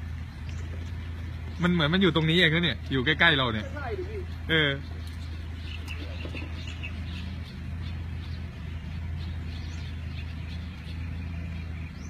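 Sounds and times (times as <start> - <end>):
birds chirping faintly: 0.0 - 12.0
steady low rumble: 0.0 - 12.0.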